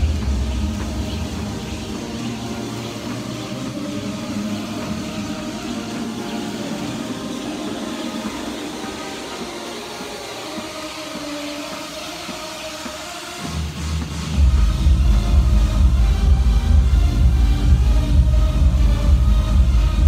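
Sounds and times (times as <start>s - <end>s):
rowing machine fan whirring: 0.0s - 20.0s.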